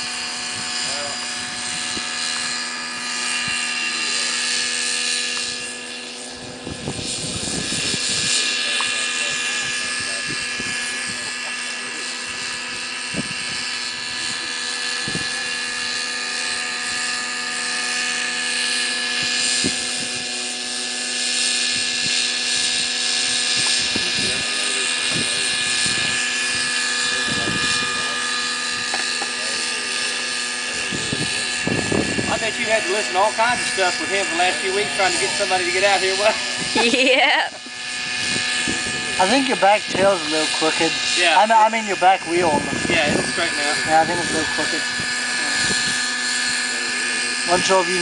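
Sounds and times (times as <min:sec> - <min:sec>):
model helicopter engine whine: 0:00.0 - 0:48.0.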